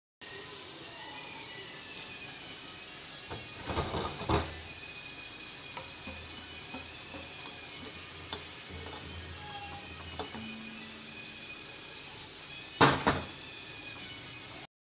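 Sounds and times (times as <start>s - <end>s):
steady hiss: 0.2s - 14.7s.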